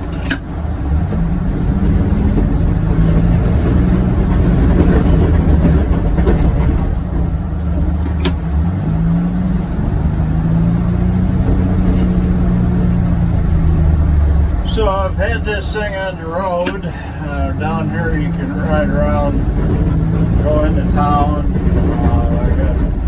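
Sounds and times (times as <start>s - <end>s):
utility vehicle engine running: 0.0s - 23.0s.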